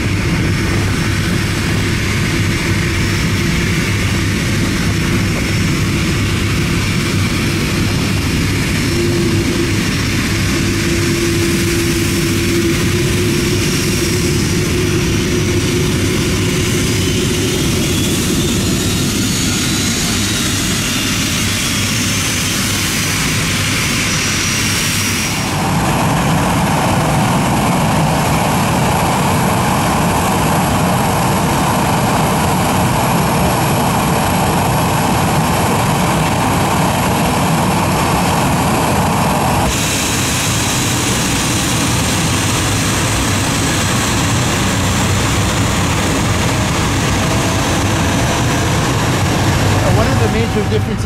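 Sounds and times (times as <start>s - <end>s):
jet engines with turbine whine: 0.0s - 51.0s.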